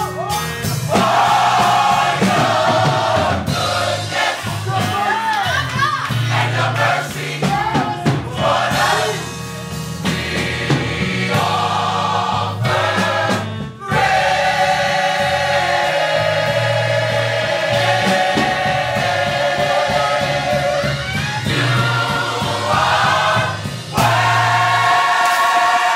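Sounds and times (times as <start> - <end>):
gospel choir singing: 0.2 - 25.9.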